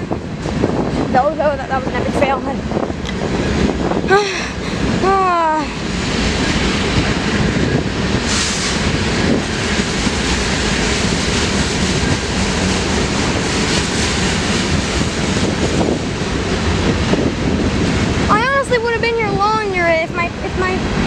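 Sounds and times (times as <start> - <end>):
train rumbling: 0.0 - 21.0
wind buffeting microphone: 0.0 - 21.0.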